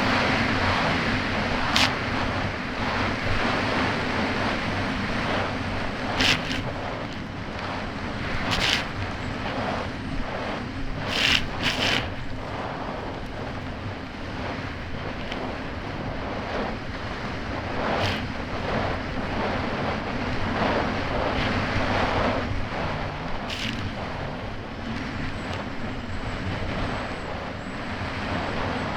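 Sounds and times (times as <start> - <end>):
hull slapping waves: 0.0 - 28.9
jet ski engine running: 0.0 - 28.9
rushing water: 0.0 - 28.9
wind noise on microphone: 0.0 - 28.9.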